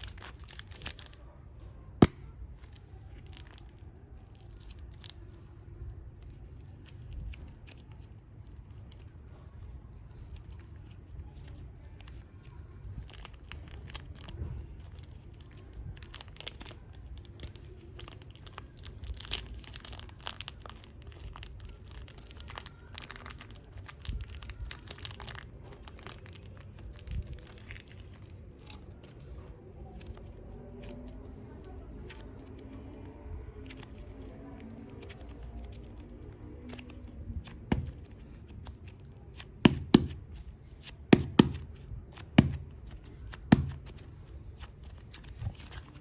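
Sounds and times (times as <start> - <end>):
plastic packaging crinkling: 0.0 - 1.3, 2.0 - 46.0.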